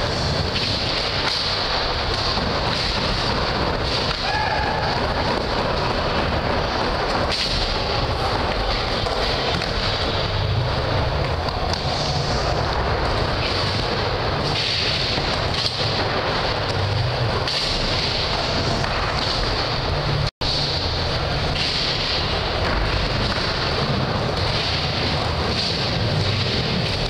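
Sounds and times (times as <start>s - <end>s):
skateboard wheels rolling on wood: 0.0s - 27.0s.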